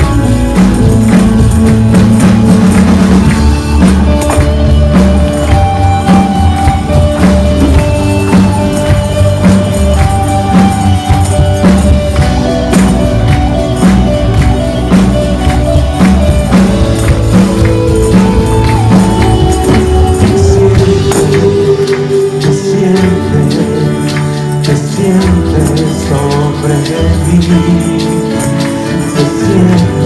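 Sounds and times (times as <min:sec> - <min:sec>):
tambourines shaken and struck: 0:00.0 - 0:30.0
worship band music: 0:00.0 - 0:30.0.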